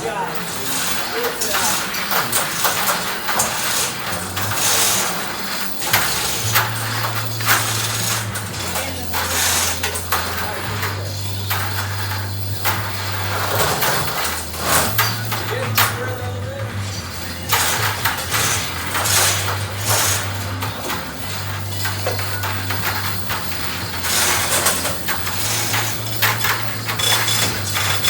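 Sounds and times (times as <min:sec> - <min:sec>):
metal clanks and scraping: 0:00.0 - 0:28.0.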